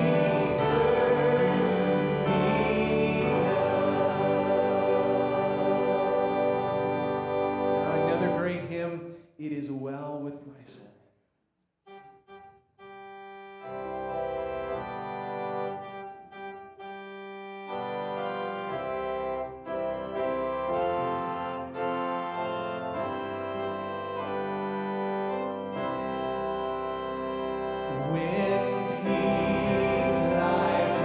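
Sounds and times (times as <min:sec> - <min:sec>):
organ playing held chords: 0:00.0 - 0:10.3, 0:11.8 - 0:31.0.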